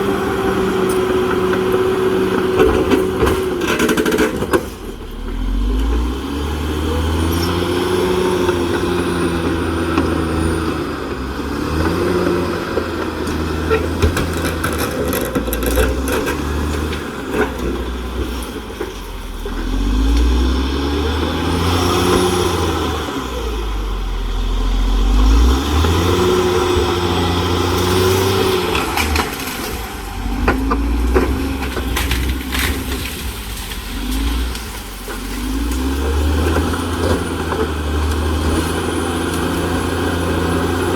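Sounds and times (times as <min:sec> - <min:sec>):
bulldozer diesel engine under load: 0:00.0 - 0:40.9.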